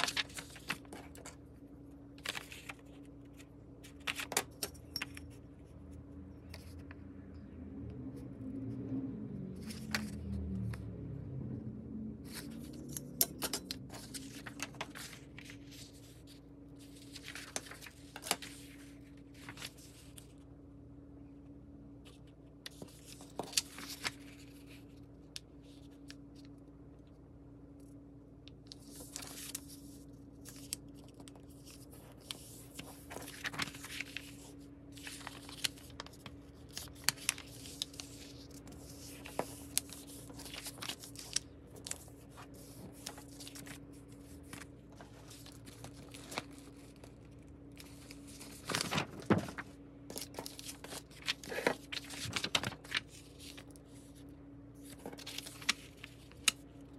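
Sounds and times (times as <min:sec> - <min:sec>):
paper rustling and crinkling: 0:00.0 - 0:05.4, 0:09.6 - 0:10.7, 0:12.2 - 0:20.4, 0:22.0 - 0:26.6, 0:28.7 - 0:56.9
steady low hum: 0:00.0 - 0:56.9.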